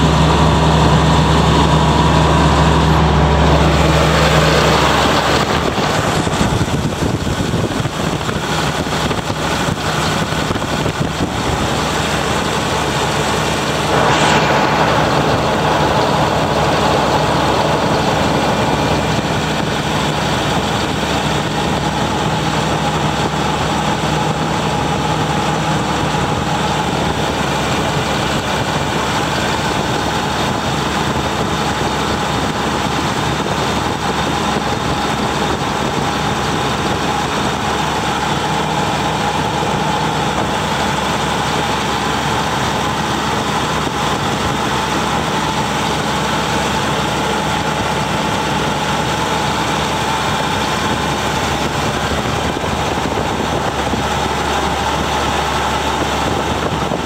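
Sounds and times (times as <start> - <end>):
diesel air compressor droning: 0.0 - 57.0.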